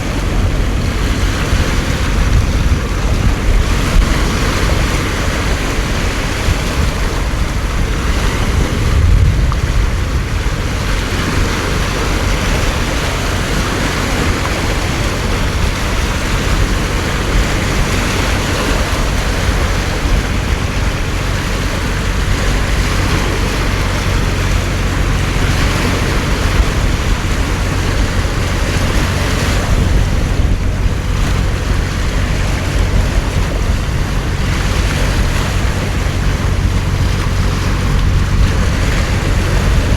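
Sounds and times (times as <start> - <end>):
heavy rain pouring: 0.0 - 39.9
wind buffeting microphone: 0.0 - 39.9.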